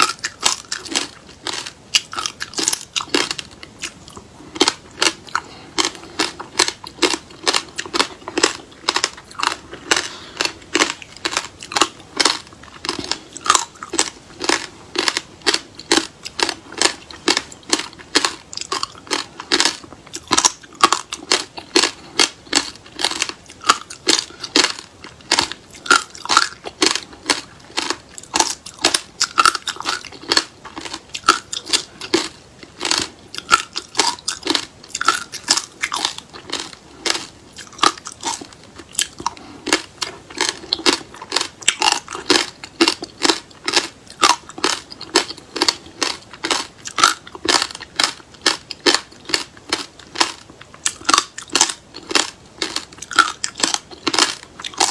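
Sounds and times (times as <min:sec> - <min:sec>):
crisp crunching chewing: 0:00.0 - 0:54.9.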